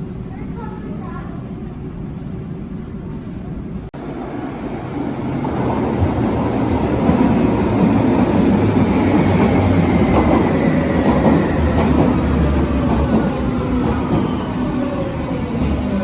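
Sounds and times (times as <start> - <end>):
metro train wheels rumbling: 0.0 - 16.0.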